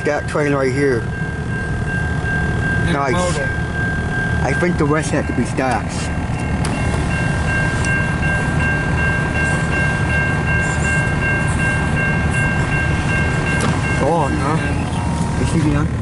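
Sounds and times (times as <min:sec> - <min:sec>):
freight train rumbling past: 0:00.0 - 0:16.0
high-pitched tone: 0:00.0 - 0:16.0.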